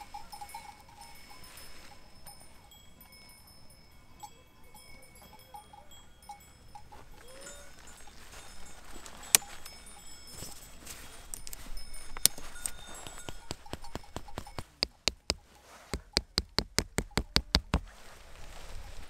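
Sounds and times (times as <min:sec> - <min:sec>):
livestock bells clinking: 0:00.0 - 0:17.5.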